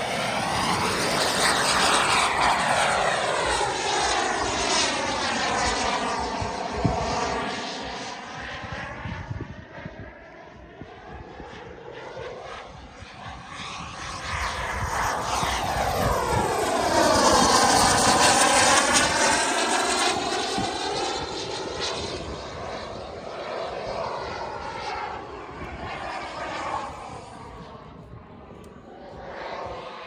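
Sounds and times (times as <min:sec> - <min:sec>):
jet turbine whine: 0:00.0 - 0:30.0.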